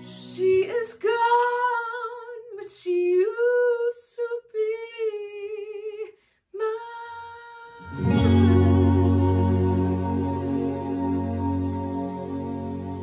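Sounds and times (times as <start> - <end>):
woman singing with vibrato: 0.0 - 10.9.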